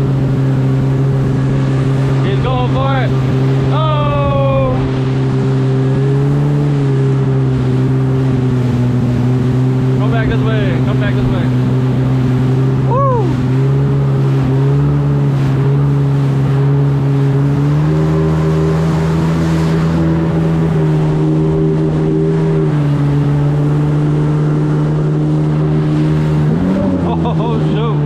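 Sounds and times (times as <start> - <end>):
jet ski engine droning: 0.0 - 28.0.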